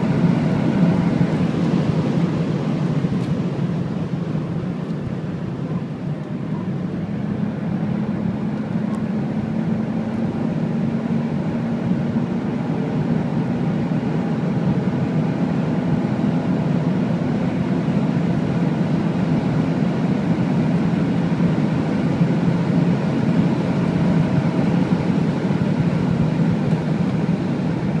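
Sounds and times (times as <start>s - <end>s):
car engine accelerating hard: 0.0s - 28.0s
wind and road rush: 0.0s - 28.0s.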